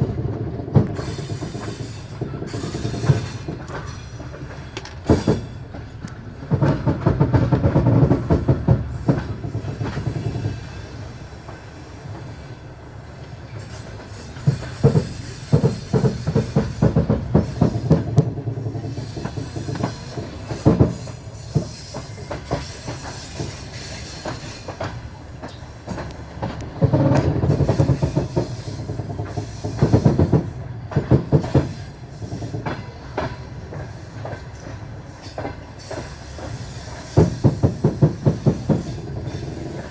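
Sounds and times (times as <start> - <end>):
train rumble: 0.0 - 39.9
train wheels clattering over rail joints: 0.0 - 39.9.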